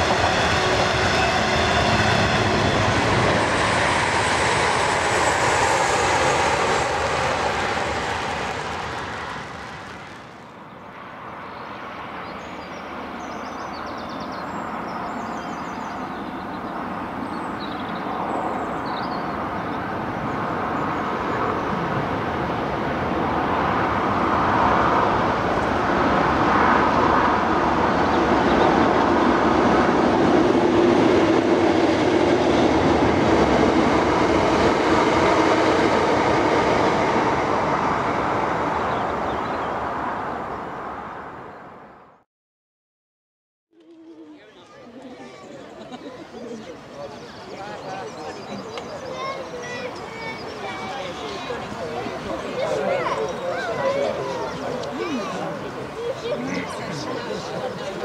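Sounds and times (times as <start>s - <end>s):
train passing: 0.0s - 13.9s, 14.7s - 42.0s, 44.2s - 58.0s
train approaching: 0.0s - 41.8s, 43.8s - 58.0s.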